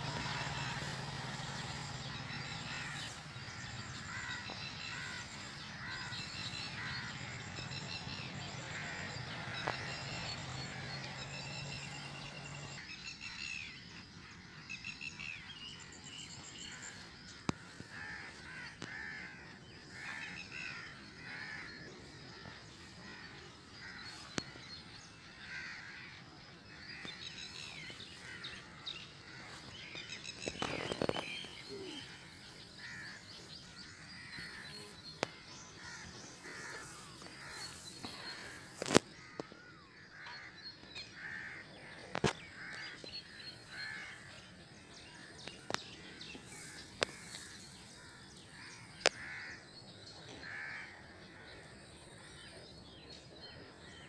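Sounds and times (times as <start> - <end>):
faint birds calling: 0.0 - 54.0.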